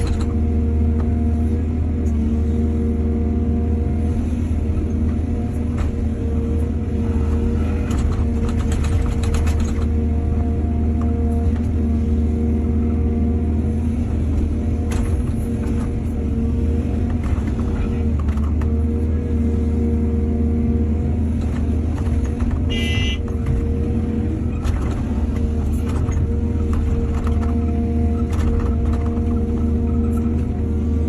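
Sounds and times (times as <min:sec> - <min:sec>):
excavator diesel engine droning: 0:00.0 - 0:31.0.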